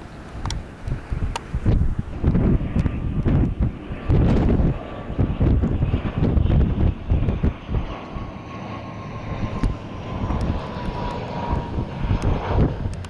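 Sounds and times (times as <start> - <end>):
turboprop airliner flying past: 0.0 - 13.0
wind buffeting microphone: 0.3 - 13.0.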